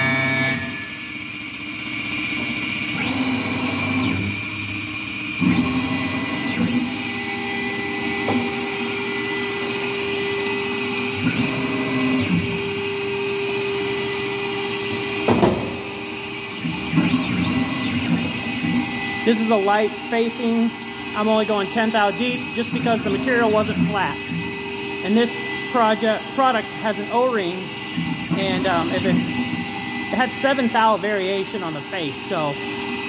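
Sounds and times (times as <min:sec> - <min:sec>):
milling spindle whine: 0:00.0 - 0:33.0.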